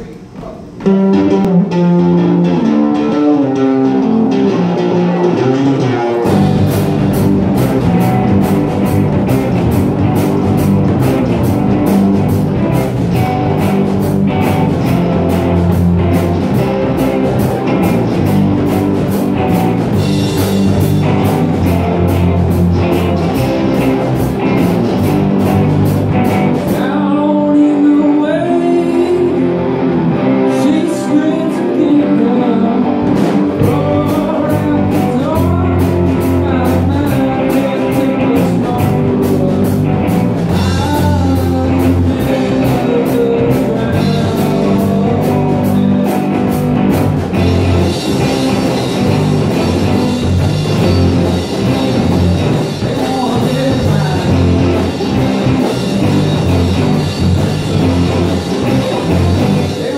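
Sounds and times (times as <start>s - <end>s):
drum kit: 0.0s - 59.9s
electric guitar riff: 0.0s - 59.9s
live rock band: 0.0s - 59.9s.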